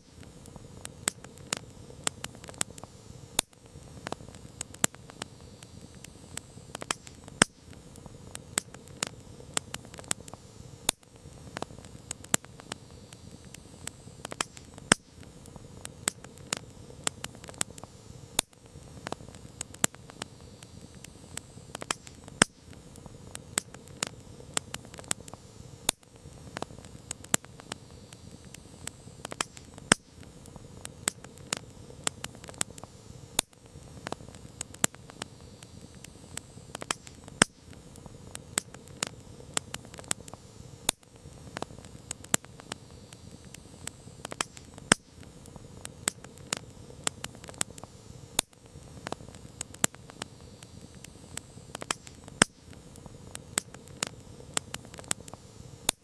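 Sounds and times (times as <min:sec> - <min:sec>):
campfire crackling: 0:00.0 - 0:56.0
low rush of flames: 0:00.0 - 0:56.0.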